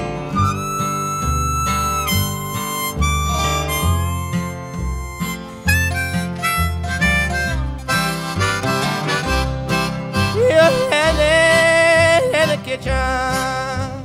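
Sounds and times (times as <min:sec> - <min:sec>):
blues guitar: 0:00.0 - 0:14.0
harmonica: 0:00.0 - 0:14.0.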